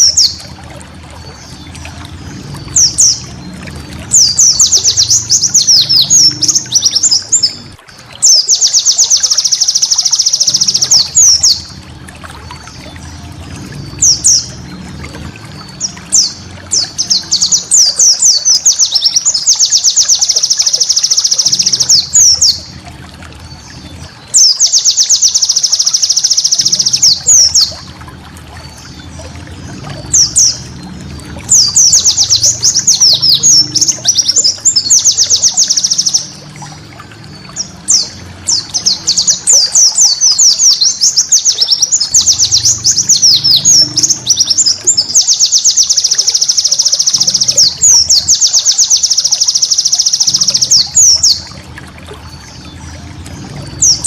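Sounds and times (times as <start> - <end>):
bird twittering trills: 0.0 - 51.6, 52.2 - 54.0.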